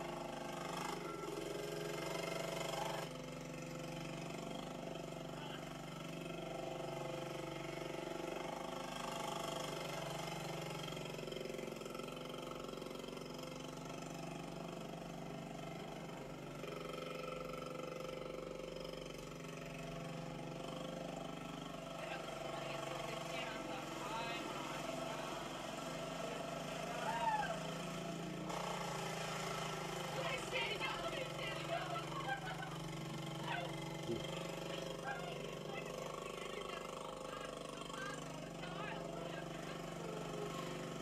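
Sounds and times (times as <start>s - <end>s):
small quad engines running: 0.0s - 41.0s.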